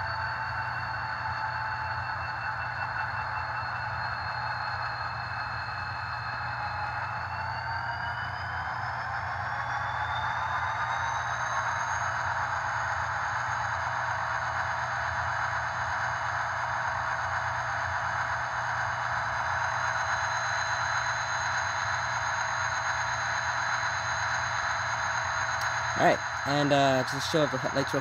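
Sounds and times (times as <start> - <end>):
model train diesel engine sound: 0.0 - 28.0
thin high whine: 0.0 - 28.0.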